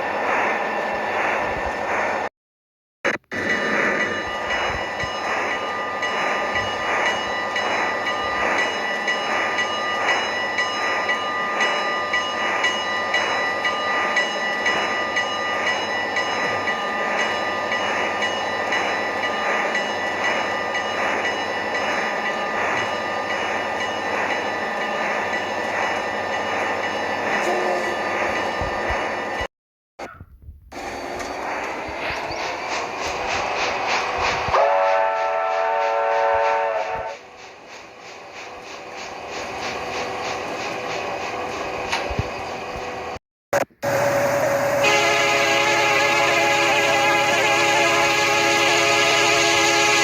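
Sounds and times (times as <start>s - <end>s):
freight train rumble: 0.0s - 2.3s, 3.1s - 50.0s
train wheels clickety-clack: 3.1s - 29.5s, 30.1s - 43.9s.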